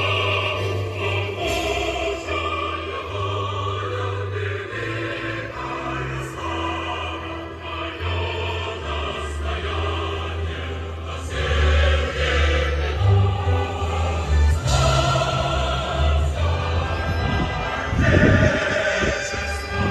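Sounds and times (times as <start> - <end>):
choir singing: 0.0 - 19.9
instrumental accompaniment: 0.0 - 19.9.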